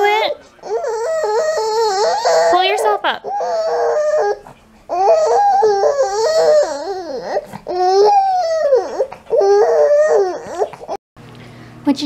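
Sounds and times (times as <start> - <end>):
baby crying: 0.0 - 11.0.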